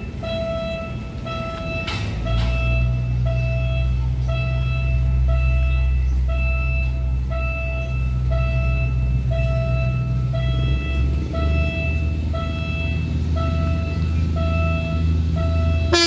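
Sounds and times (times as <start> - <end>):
level crossing alarm beeps: 0.0 - 16.0
low engine hum: 0.0 - 16.0.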